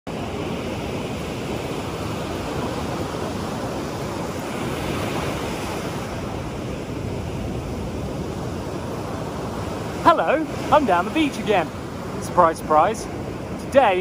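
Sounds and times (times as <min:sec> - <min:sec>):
surf washing onto beach: 0:00.1 - 0:14.0.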